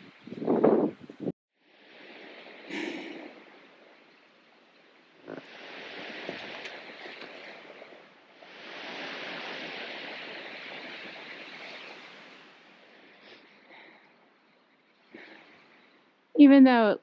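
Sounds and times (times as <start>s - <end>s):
gusting wind: 0.0s - 17.0s.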